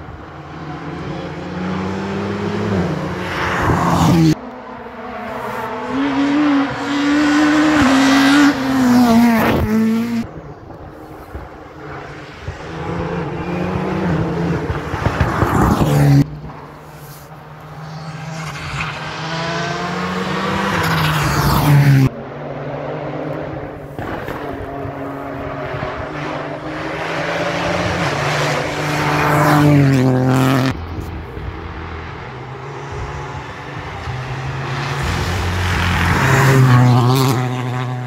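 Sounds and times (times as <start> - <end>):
rally cars passing at speed: 0.0 - 38.0.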